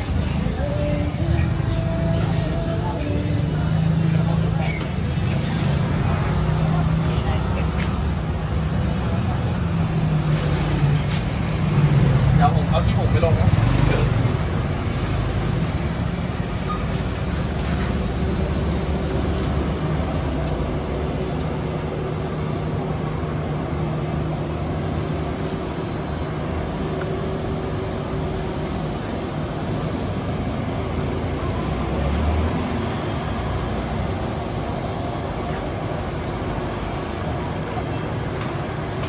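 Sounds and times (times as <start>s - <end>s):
cars passing: 0.0s - 39.0s
vehicle engines running: 0.0s - 39.0s.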